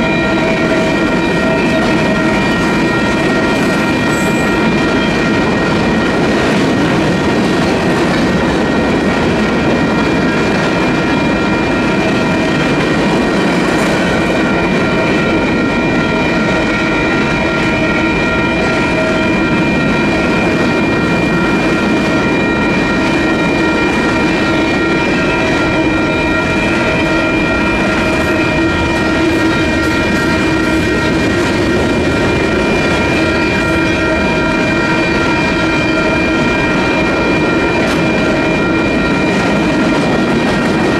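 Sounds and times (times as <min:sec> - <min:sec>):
crossing bell ringing: 0:00.0 - 0:40.9.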